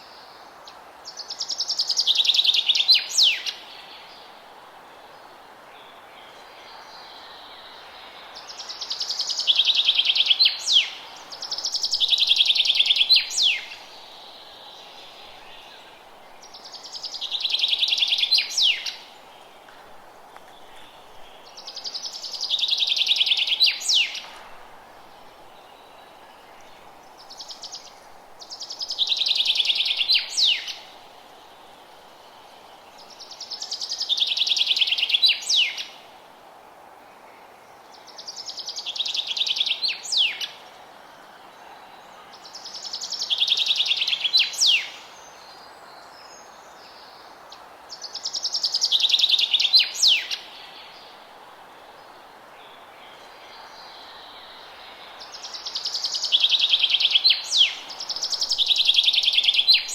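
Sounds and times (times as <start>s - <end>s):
forest ambience hiss: 0.0s - 59.9s.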